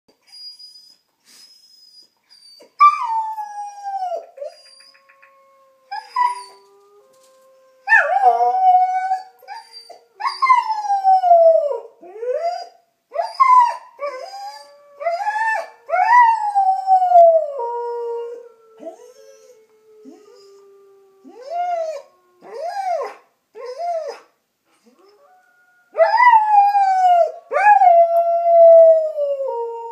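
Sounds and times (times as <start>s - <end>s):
recorded wolf howls: 3.0s - 12.6s, 14.0s - 24.2s, 24.9s - 29.9s.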